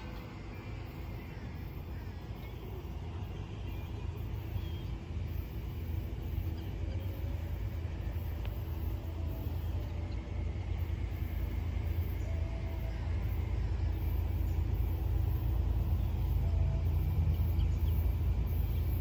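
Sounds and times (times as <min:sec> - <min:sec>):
freight train rumble: 0:00.0 - 0:19.0.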